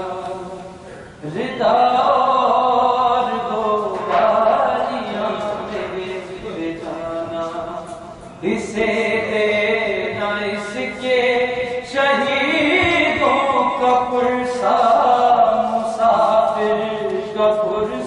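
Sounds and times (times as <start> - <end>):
man chanting a lament: 0.0 - 18.0.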